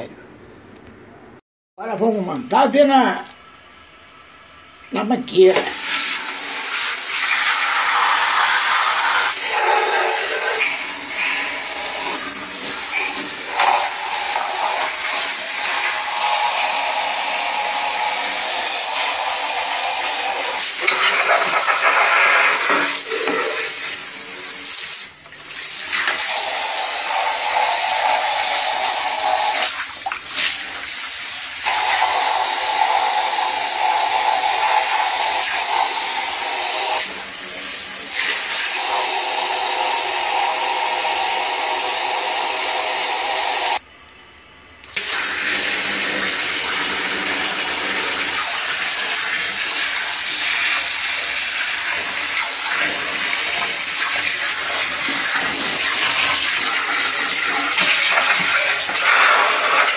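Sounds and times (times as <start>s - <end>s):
hose water spraying and splashing: 5.5s - 43.8s, 44.9s - 59.9s.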